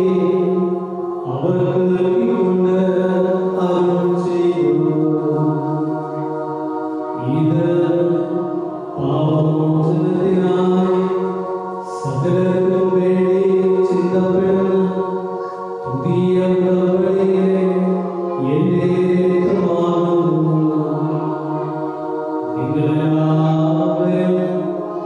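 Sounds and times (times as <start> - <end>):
liturgical chant: 0.0 - 25.0.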